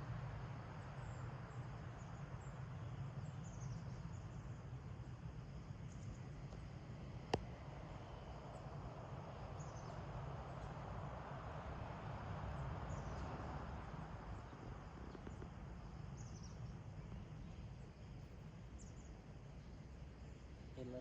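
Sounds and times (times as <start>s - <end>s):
low rushing background noise: 0.0s - 21.0s.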